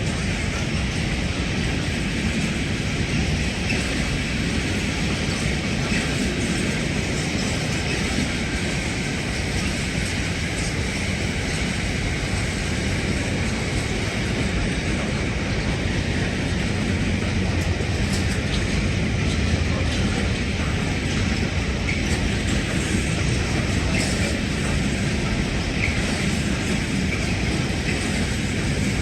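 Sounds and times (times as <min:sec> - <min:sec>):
train running through station: 0:00.0 - 0:29.0.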